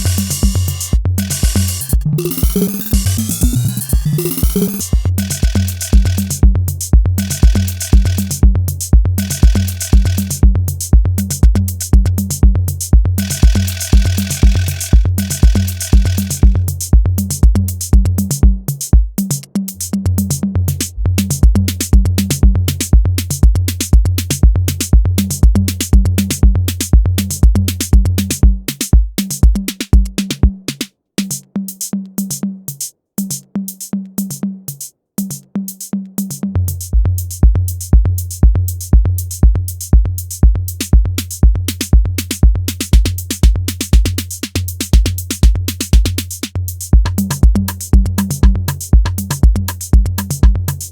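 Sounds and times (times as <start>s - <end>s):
drum machine kick: 0.0s - 50.9s
fast hi-hat ticks: 0.0s - 50.9s.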